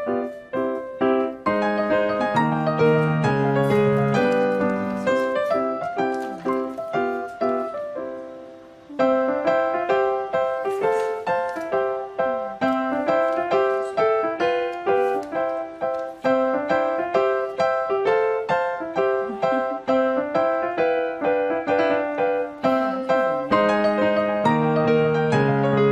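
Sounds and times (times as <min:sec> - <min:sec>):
keyboard melody: 0:00.0 - 0:25.9
low keyboard chords: 0:00.0 - 0:25.9.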